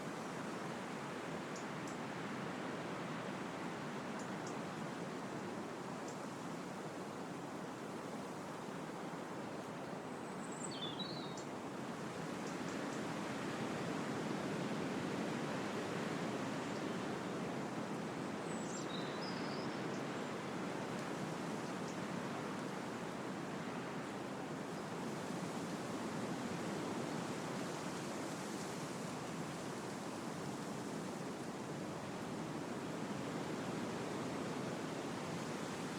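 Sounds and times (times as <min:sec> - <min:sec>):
wind rushing through trees: 0:00.0 - 0:35.9.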